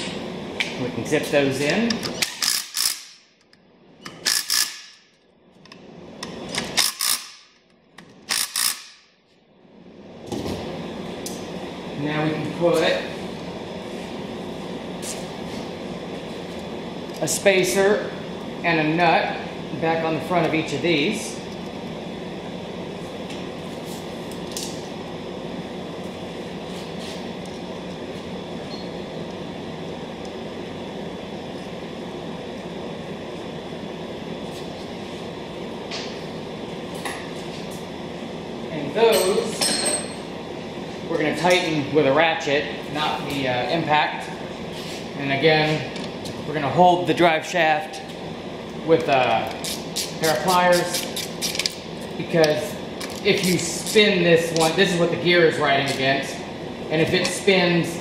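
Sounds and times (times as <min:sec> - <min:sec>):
mechanical hum and hiss: 0:00.0 - 0:58.0
steady background noise: 0:00.0 - 0:58.0.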